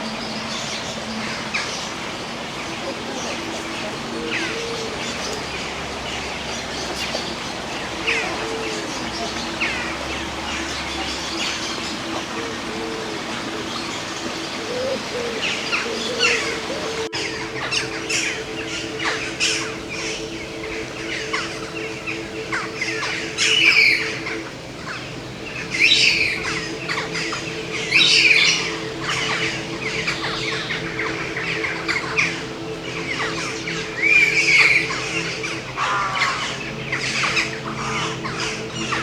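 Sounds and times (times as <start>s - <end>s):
birds chirping: 0.0s - 39.0s
steady low hum: 0.0s - 39.0s.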